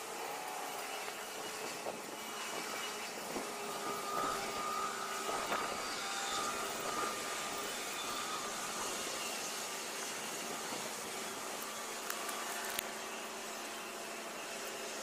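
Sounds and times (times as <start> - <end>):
diesel locomotive engine drone: 0.0 - 15.0
thin whine: 0.0 - 15.0.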